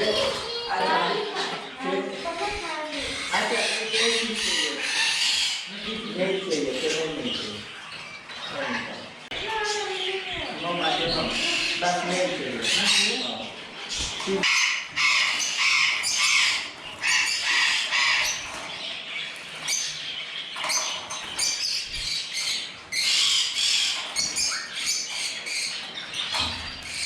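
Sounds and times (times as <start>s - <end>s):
parrots squawking: 0.0s - 27.0s.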